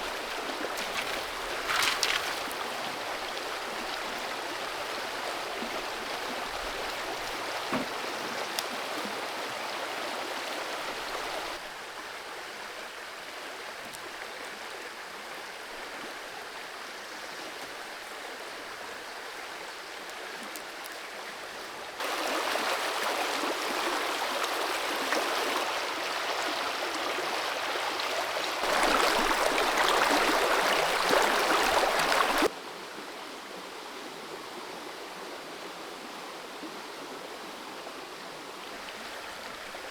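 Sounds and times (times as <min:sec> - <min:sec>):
creek water rushing and gurgling: 0:00.0 - 0:39.9.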